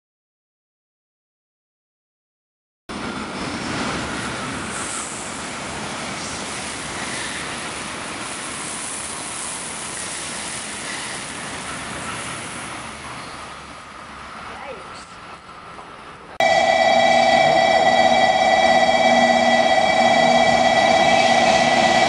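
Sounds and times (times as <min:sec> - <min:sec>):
train passing at speed: 0:02.9 - 0:22.0.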